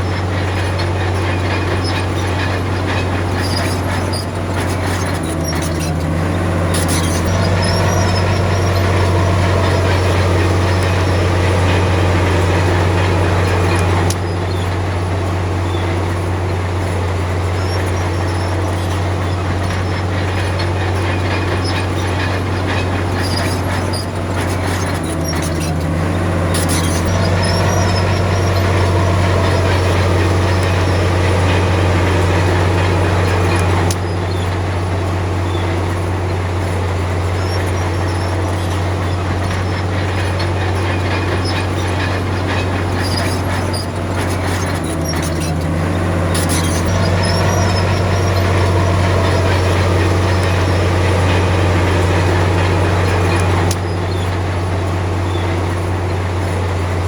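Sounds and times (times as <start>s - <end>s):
bulldozer diesel engine running: 0.0s - 57.0s
tracks clanking and squealing: 0.0s - 57.0s.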